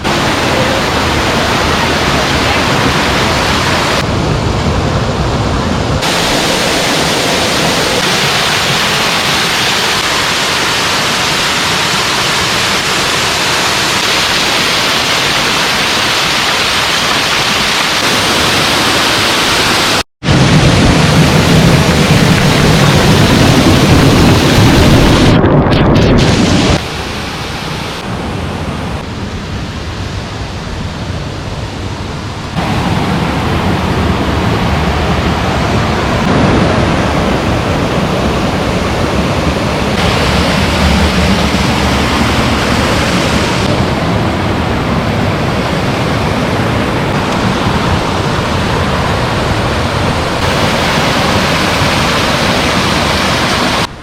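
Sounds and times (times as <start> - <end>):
waterfall rushing: 0.0 - 25.4, 26.2 - 54.0.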